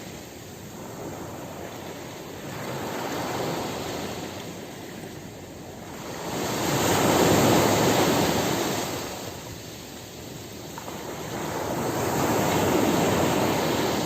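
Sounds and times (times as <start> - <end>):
sea waves on the shore: 0.0 - 14.0.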